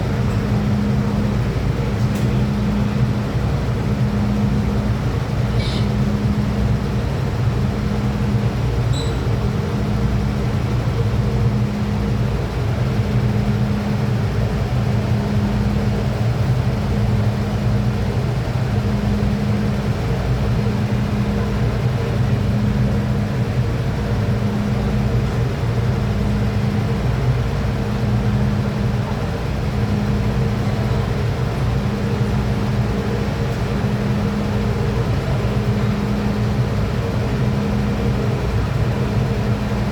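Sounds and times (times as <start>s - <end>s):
train low rumble and hum: 0.0s - 39.9s.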